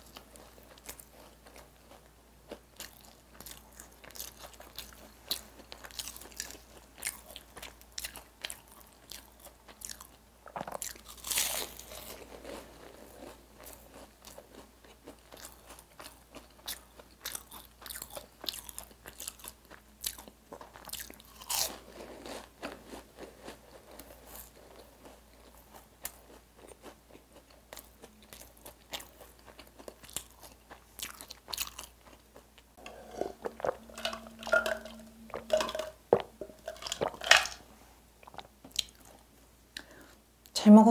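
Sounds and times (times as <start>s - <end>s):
crunching and chewing pastry: 0.0s - 34.4s, 38.2s - 40.2s.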